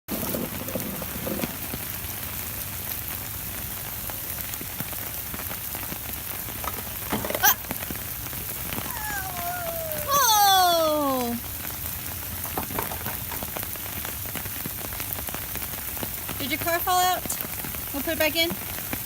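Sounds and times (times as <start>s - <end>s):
steady rain falling: 0.1s - 19.0s.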